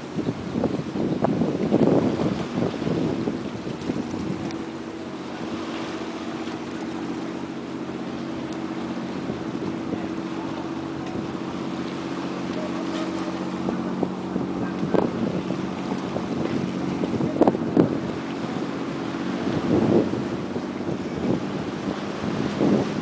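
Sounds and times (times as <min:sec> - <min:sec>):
boat motor running: 0:00.0 - 0:23.0
wind on microphone: 0:00.0 - 0:23.0.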